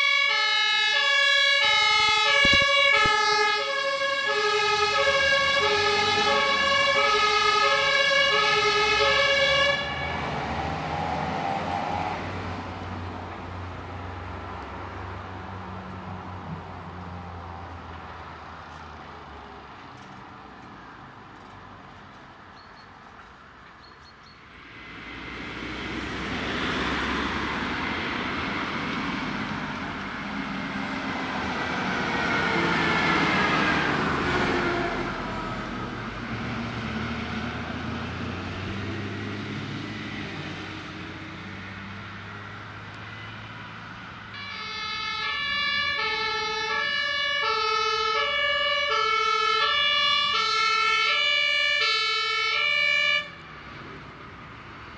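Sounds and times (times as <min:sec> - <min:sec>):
fire engine driving past: 0:00.0 - 0:22.1, 0:24.5 - 0:54.9.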